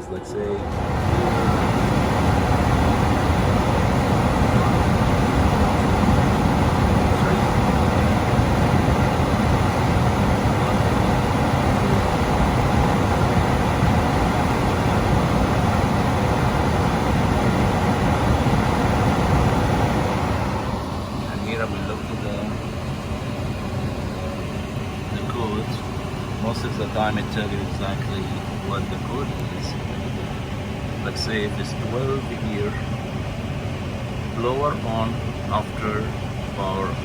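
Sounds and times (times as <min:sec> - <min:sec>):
furnace fan running: 0:00.0 - 0:37.0.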